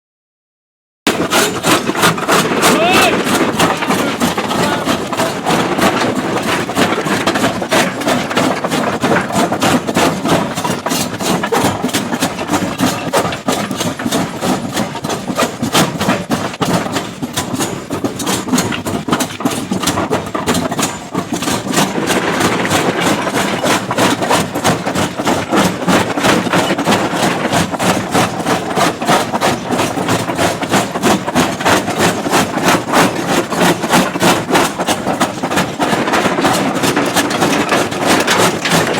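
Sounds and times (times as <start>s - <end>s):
rock crusher knocking: 1.1s - 38.9s.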